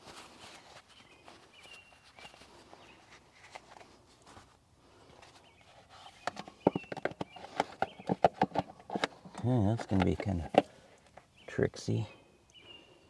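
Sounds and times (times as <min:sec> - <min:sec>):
faint handling rustle: 0:00.0 - 0:12.1.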